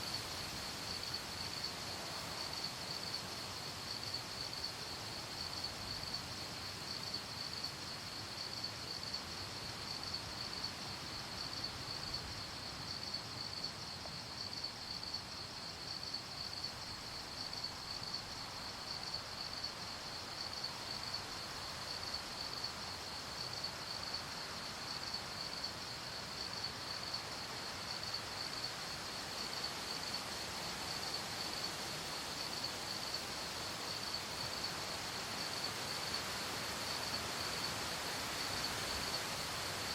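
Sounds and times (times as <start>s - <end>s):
crickets chirping: 0.0s - 39.9s
night ambience hiss: 0.0s - 39.9s.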